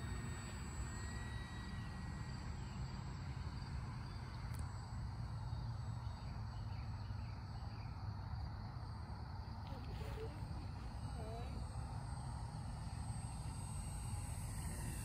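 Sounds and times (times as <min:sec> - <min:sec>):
faint electric motor whine: 0:00.0 - 0:15.0
insects chirping: 0:00.0 - 0:15.0.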